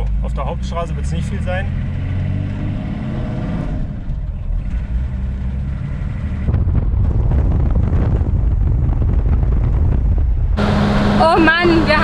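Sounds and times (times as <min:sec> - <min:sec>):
road noise: 0:00.0 - 0:12.0
van engine drone: 0:00.0 - 0:12.0.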